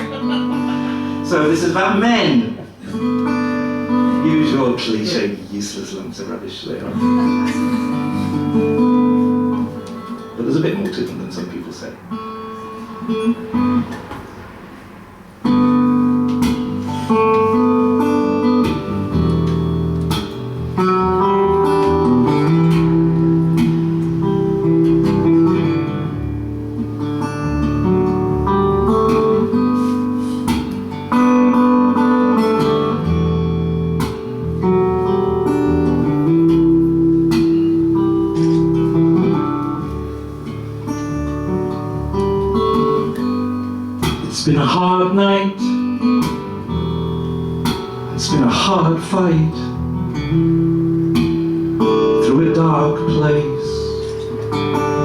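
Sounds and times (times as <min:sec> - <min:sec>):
guitar playing: 0:00.0 - 0:55.0.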